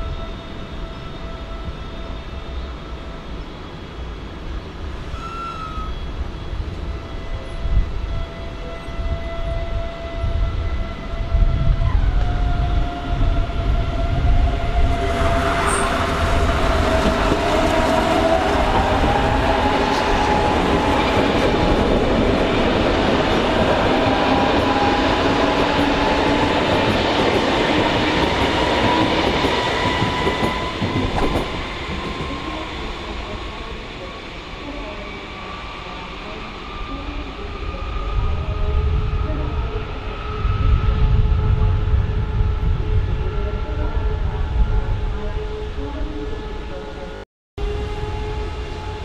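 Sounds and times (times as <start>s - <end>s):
train wheels rumbling on rails: 3.7s - 45.4s.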